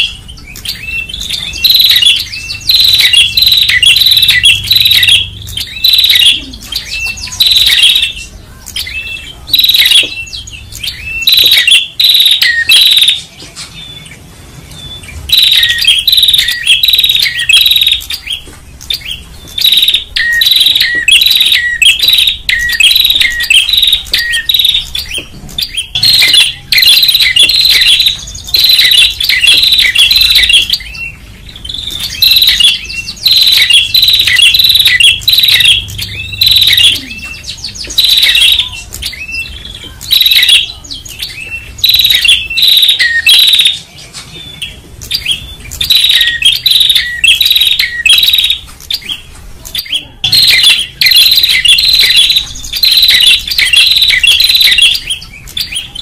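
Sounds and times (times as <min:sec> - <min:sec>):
birds chirping sharply: 0:00.0 - 0:56.0.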